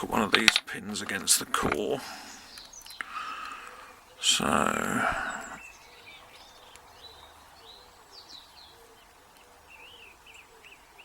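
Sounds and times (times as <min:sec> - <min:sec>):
faint birdsong chirping: 0:00.0 - 0:11.0.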